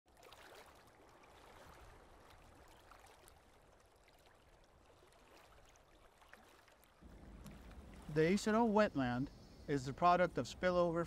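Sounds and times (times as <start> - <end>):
soft trickling water: 0.1 - 11.0.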